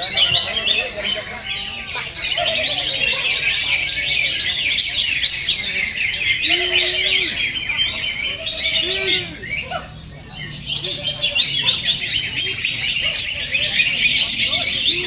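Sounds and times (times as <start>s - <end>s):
songbirds chattering and trilling: 0.0s - 15.0s.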